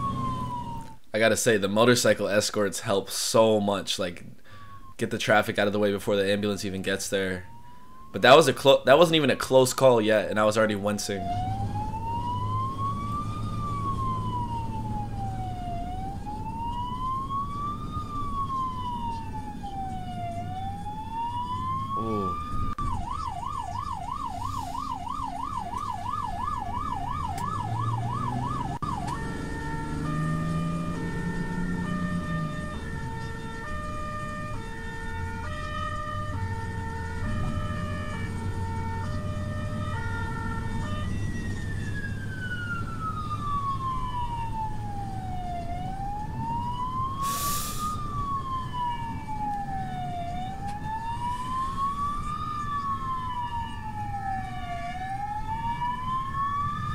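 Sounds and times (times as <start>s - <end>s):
ambulance siren: 0.0s - 1.1s, 4.4s - 56.9s
engine and road noise: 0.0s - 56.9s.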